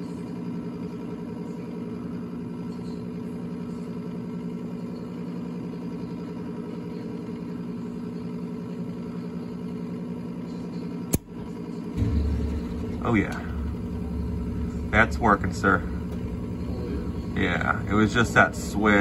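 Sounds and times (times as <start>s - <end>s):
furnace motor humming: 0.0s - 19.0s.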